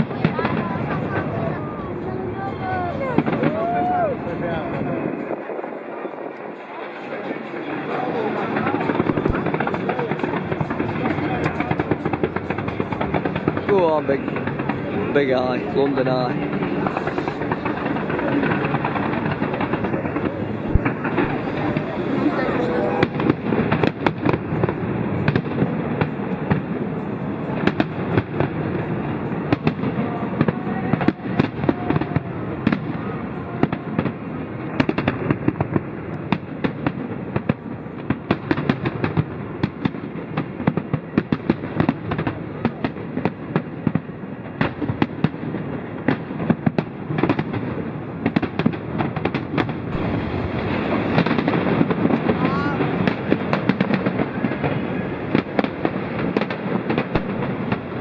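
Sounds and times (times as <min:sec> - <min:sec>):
continuous rumble: 0:00.0 - 0:58.0
fireworks bangs: 0:00.0 - 0:58.0.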